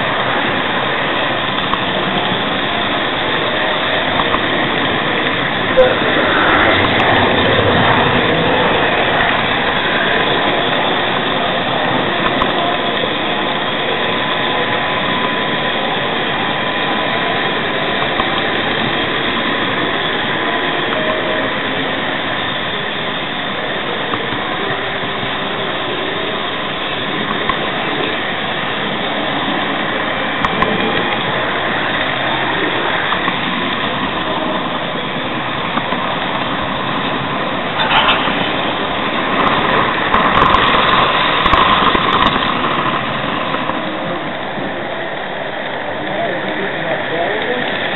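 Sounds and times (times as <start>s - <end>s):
faint steady tone: 0.0s - 47.0s
model train wheels rolling on rails: 0.0s - 47.9s.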